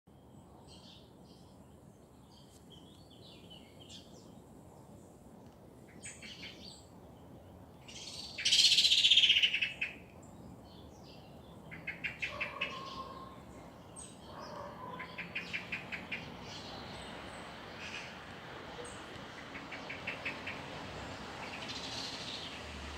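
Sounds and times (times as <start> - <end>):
wild birds singing and chirping: 0.1 - 5.2, 5.8 - 22.9.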